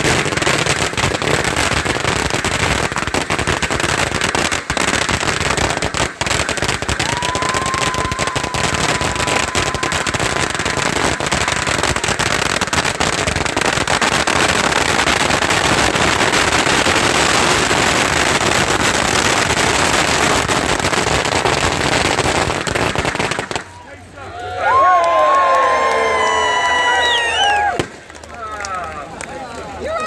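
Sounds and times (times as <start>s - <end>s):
firecrackers crackling: 0.0s - 30.0s.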